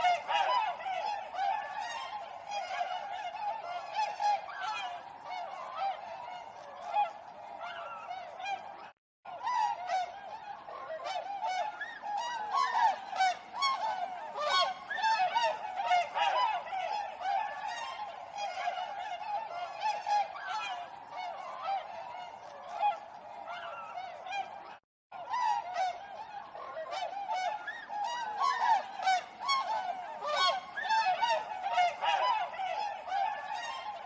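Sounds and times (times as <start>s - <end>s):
swans honking: 0.0s - 34.0s.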